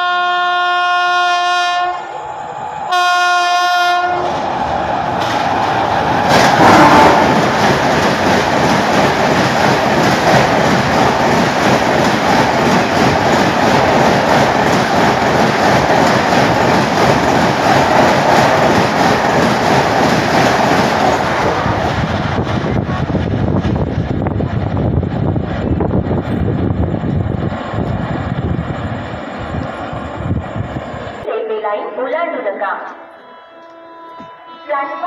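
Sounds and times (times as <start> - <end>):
train rushing past: 0.0 - 31.7.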